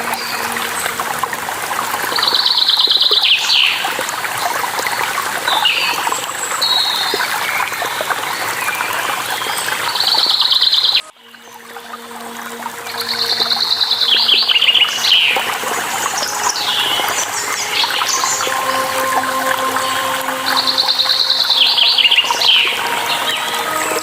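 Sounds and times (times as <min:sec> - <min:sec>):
stream water splashing: 0:00.0 - 0:24.0.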